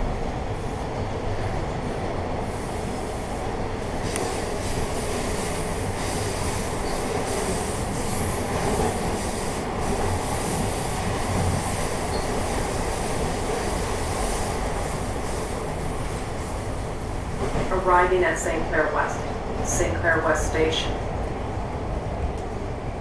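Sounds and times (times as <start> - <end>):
train wheels on rails: 0.0 - 23.0.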